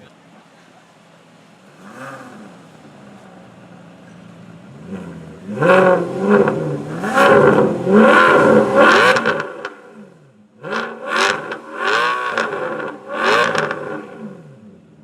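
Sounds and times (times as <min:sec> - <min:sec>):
sports car engine revving: 0:01.5 - 0:15.0.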